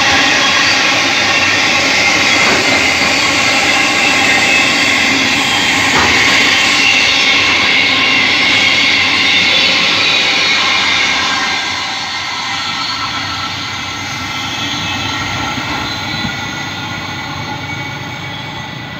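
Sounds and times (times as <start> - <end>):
freight train rumbling past: 0.0 - 18.9
high ringing of wheels on rails: 0.0 - 18.9.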